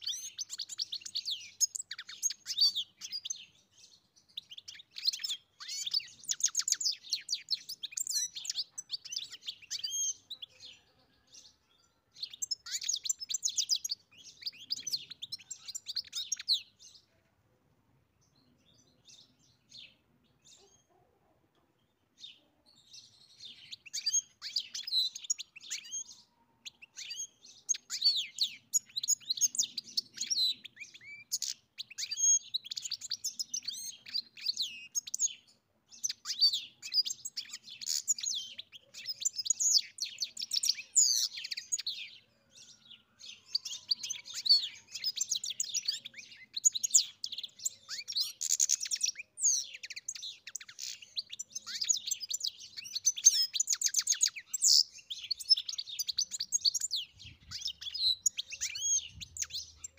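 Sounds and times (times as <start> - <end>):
goldfinch twittering song: 0.0 - 11.6, 12.2 - 17.1, 22.2 - 59.9.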